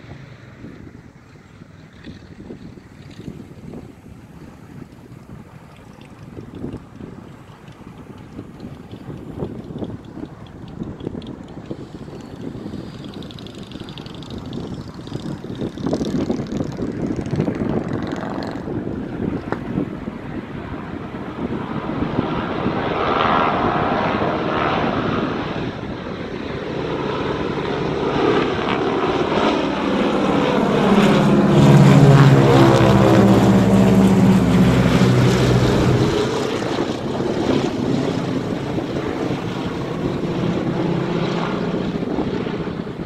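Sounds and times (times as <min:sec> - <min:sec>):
propeller plane flying overhead: 0:00.0 - 0:43.0.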